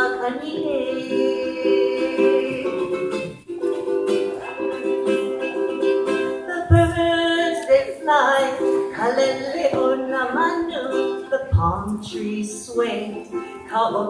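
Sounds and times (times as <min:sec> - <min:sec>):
person singing: 0:00.0 - 0:14.0
ukulele playing: 0:00.0 - 0:14.0.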